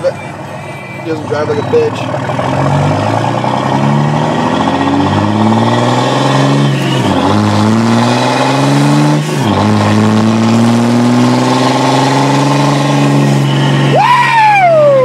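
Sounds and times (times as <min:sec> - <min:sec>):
diesel engine accelerating: 0:00.0 - 0:15.0.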